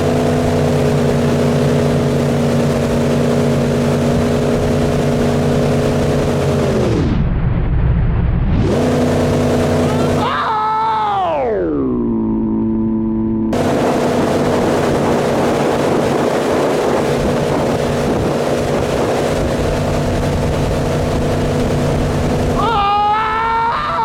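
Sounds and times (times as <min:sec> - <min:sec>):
boat engine humming: 0:00.0 - 0:06.8, 0:08.7 - 0:24.0
rushing wind and water: 0:00.0 - 0:11.5, 0:13.5 - 0:24.0.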